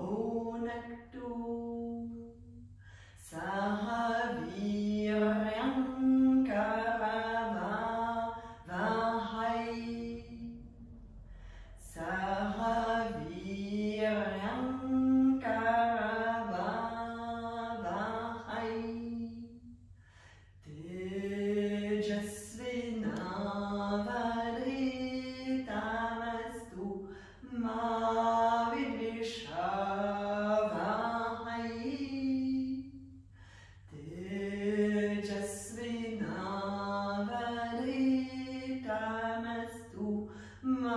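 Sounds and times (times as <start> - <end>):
woman chanting: 0.0 - 19.7, 20.6 - 33.2, 33.9 - 40.9.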